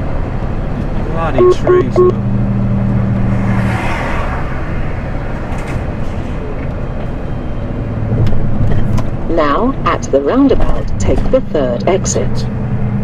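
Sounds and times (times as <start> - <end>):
low engine hum: 0.0 - 13.0
truck engine and road noise: 0.0 - 13.0.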